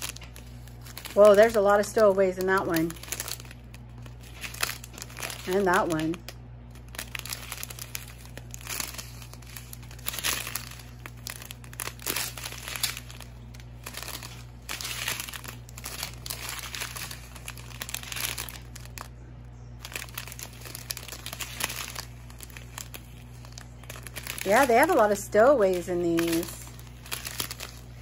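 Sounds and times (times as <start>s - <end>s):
plastic packets crinkling: 0.0s - 19.1s, 19.8s - 28.0s
faint low hum: 0.0s - 28.0s.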